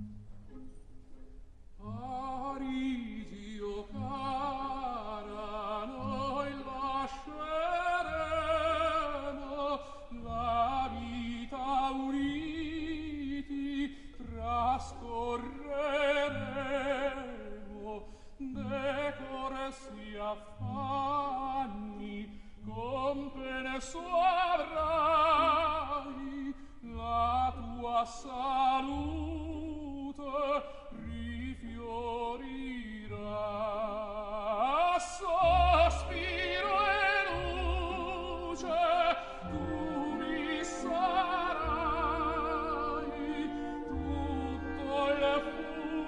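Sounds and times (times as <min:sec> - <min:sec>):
operatic singing with orchestra: 0:01.8 - 0:46.0.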